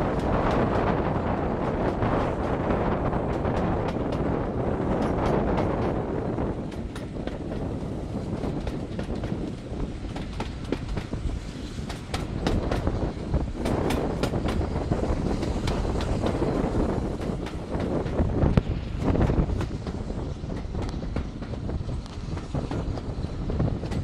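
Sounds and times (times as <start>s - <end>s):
train wheels rumbling: 0.0s - 24.0s
wheels clacking on rails: 0.0s - 24.0s.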